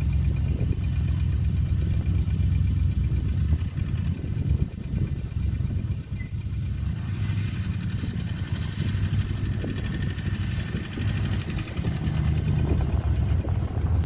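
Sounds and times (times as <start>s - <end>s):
faint wind hiss: 0.0s - 14.0s
wind buffeting microphone: 0.0s - 14.0s.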